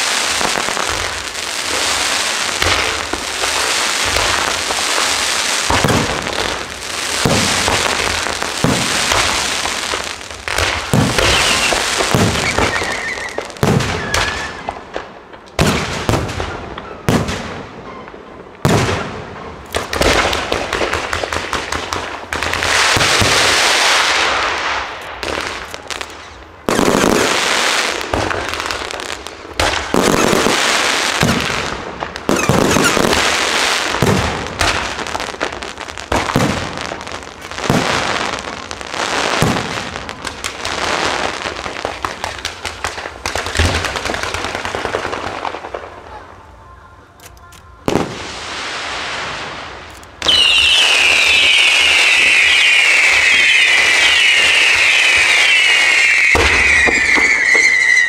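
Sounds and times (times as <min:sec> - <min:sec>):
firework booms: 0:00.0 - 0:46.6, 0:47.8 - 0:58.0
firework crackling: 0:00.0 - 0:58.0.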